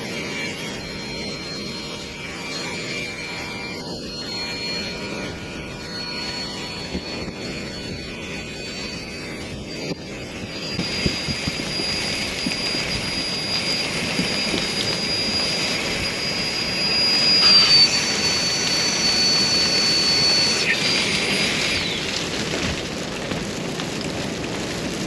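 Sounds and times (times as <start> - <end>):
thin high whine: 0.0 - 22.9
strong blizzard wind: 0.0 - 25.0.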